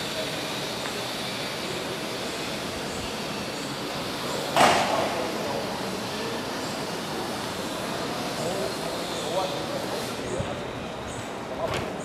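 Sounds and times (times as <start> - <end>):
city street hum: 0.0 - 12.0.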